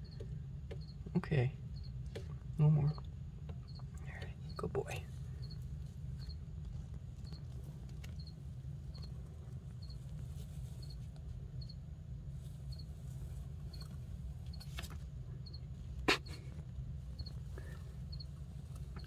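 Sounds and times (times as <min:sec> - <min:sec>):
cricket chirping: 0:00.0 - 0:19.0
low steady hum: 0:00.0 - 0:19.0.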